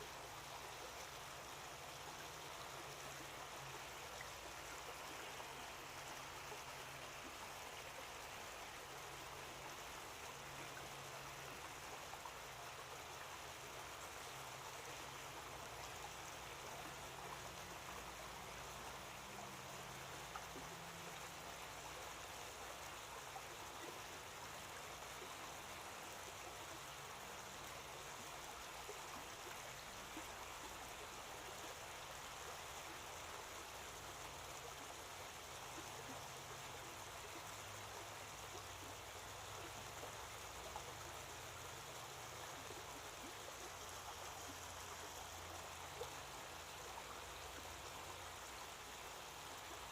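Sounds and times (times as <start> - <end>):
faint running water: 0.0 - 49.9.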